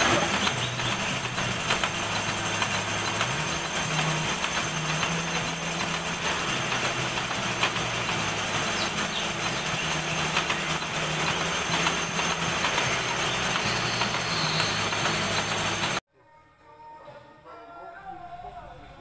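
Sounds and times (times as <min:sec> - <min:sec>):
milling machine hum: 0:00.0 - 0:16.0.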